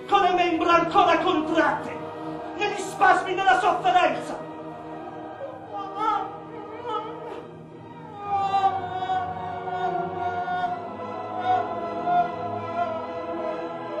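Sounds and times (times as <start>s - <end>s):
choir singing sustained notes: 0.0s - 14.0s.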